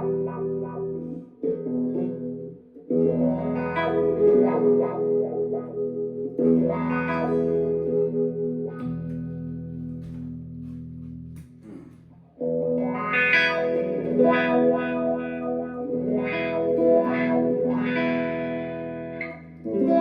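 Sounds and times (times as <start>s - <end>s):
distorted electric guitar chords: 0.0s - 20.0s.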